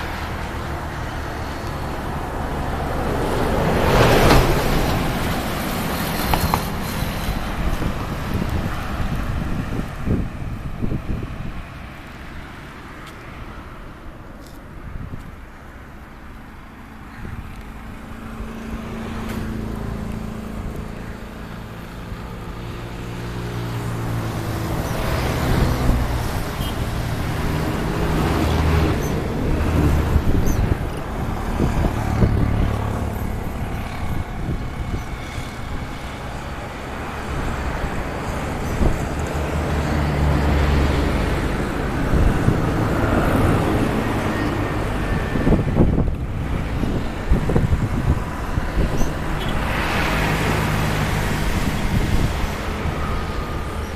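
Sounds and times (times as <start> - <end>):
wind buffeting microphone: 0.0 - 13.6, 17.0 - 53.9.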